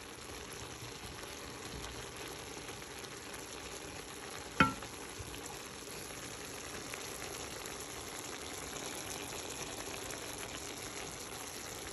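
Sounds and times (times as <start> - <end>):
vegetables sizzling in a pan: 0.0 - 11.9.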